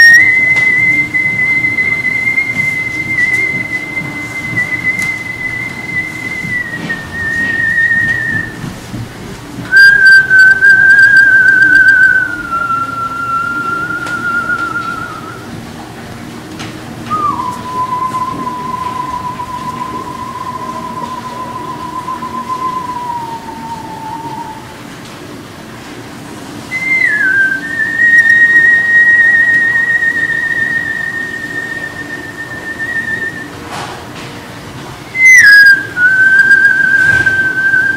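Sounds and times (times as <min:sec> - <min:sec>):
man whistling long notes: 0:00.0 - 0:08.8, 0:09.7 - 0:15.5, 0:17.1 - 0:24.8, 0:26.7 - 0:33.7, 0:35.1 - 0:37.9.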